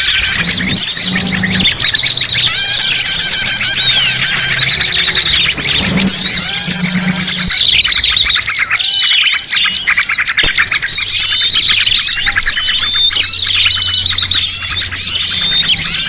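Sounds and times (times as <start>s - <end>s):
small birds chirping and twittering: 0.0s - 16.0s.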